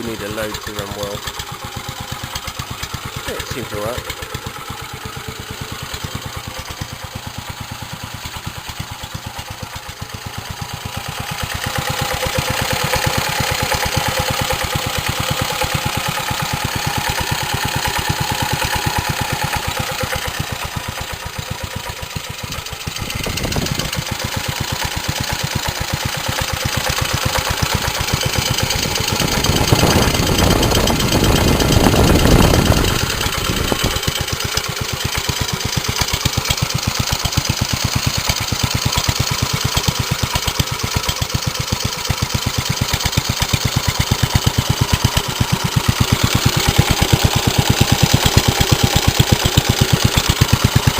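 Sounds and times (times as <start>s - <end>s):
stationary engine running: 0.0s - 50.9s.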